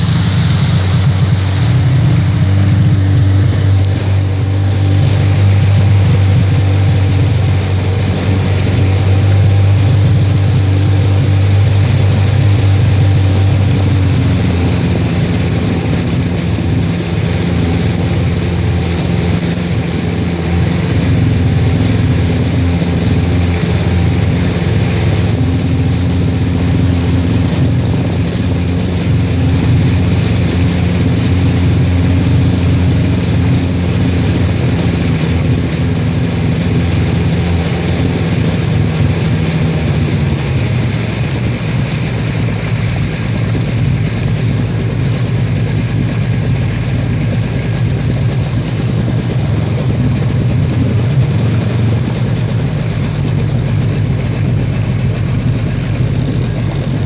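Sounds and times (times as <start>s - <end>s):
personal watercraft engine running: 0.0s - 57.0s
water spraying off hull: 0.0s - 57.0s.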